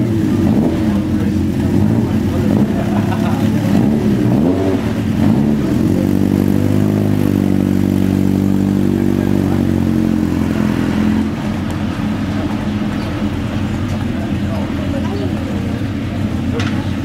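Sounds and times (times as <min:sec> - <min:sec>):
race car engine at low revs: 0:00.0 - 0:17.0.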